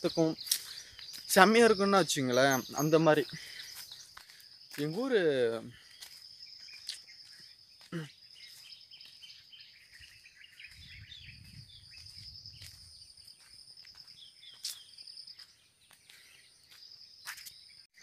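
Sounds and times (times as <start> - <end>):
bird chirps: 0.0 - 18.0.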